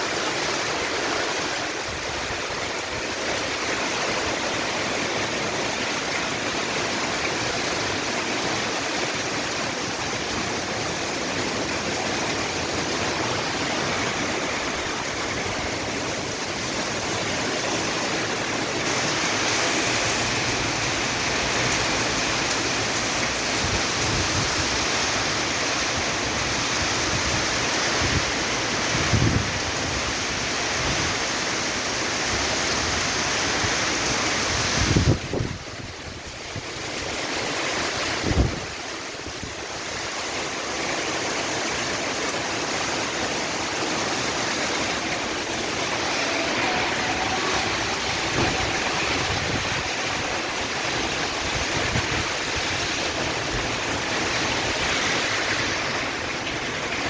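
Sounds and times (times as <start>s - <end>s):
heavy rain in wind: 0.0s - 57.0s.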